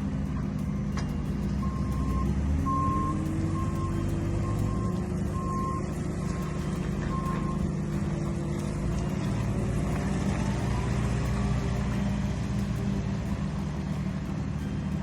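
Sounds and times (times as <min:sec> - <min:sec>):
reversing alarm beeping: 0:00.0 - 0:09.6, 0:10.2 - 0:15.0
diesel engine running: 0:00.0 - 0:15.0
rising whine: 0:00.0 - 0:15.0.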